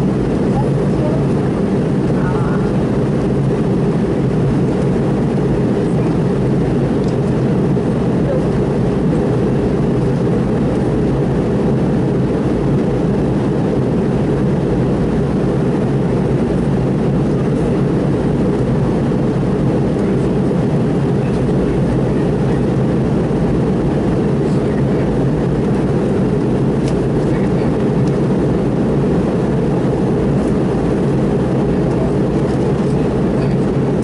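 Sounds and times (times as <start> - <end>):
airliner cabin noise: 0.0 - 34.0.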